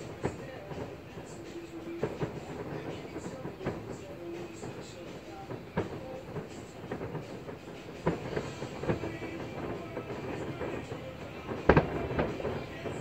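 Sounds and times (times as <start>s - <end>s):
fireworks bangs: 0.0s - 13.0s
fireworks rumble and crackle: 0.0s - 13.0s.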